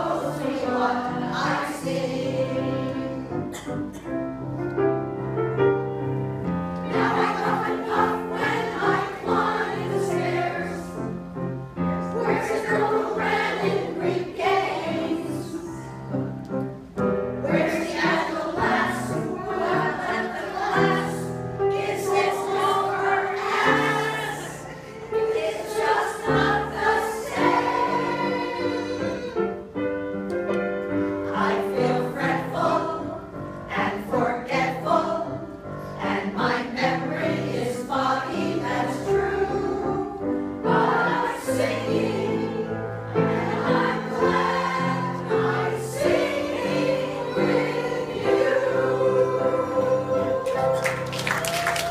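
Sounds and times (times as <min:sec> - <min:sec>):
women's choir singing: 0:00.0 - 0:04.0, 0:06.5 - 0:16.3, 0:17.4 - 0:29.9, 0:30.9 - 0:51.9.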